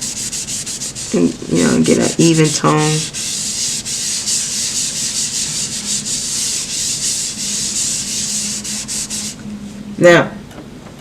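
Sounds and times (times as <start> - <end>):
tissue paper rubbing on paper: 0.0 - 9.8.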